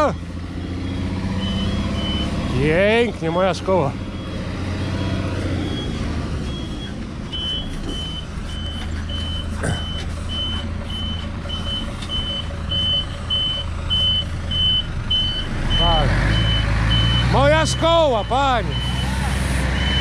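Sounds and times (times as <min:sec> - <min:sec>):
truck engine running: 0:00.0 - 0:20.0
truck reversing alarm beeping: 0:00.0 - 0:20.0.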